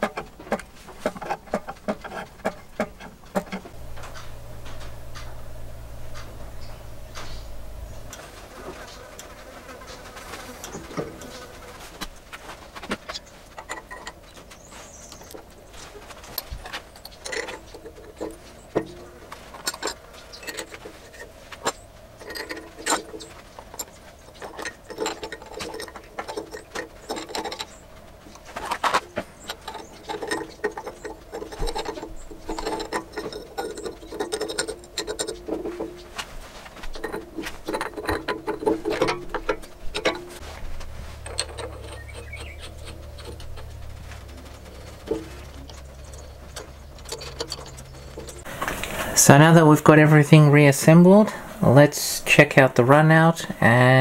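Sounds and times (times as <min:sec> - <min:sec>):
metal lathe parts clicking: 0:00.0 - 0:08.2, 0:13.6 - 0:49.0.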